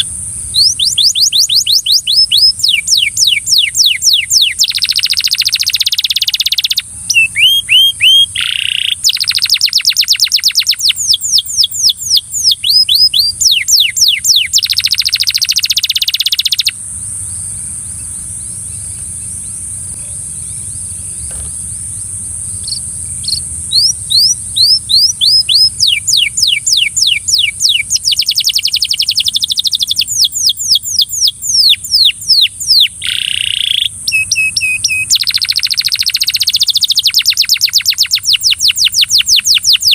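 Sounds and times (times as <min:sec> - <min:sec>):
canary singing trills: 0:00.0 - 0:39.9
steady high hiss: 0:00.0 - 0:39.9.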